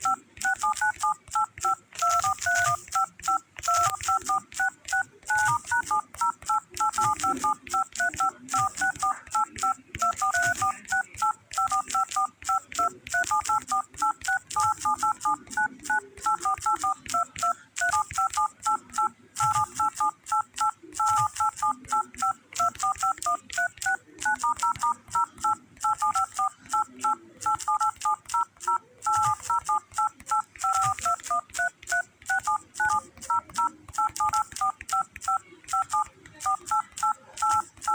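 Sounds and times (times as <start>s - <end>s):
phone keypad touch-tone beeps: 0.0s - 37.9s.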